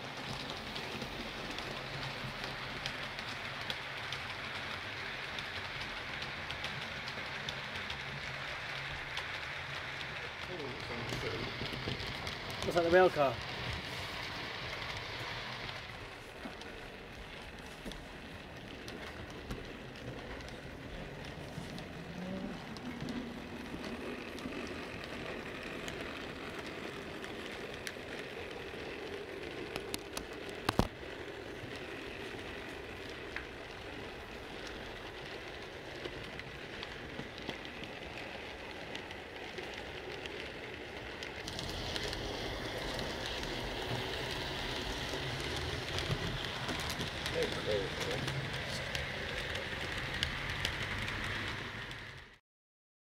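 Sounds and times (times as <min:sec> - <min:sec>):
model trains rolling on track: 0:00.0 - 0:52.4.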